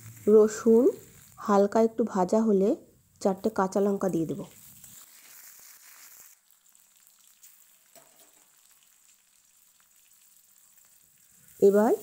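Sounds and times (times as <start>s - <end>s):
spatula stirring in a wok: 0.0s - 1.5s, 3.5s - 12.0s
food sizzling in oil: 0.0s - 12.0s.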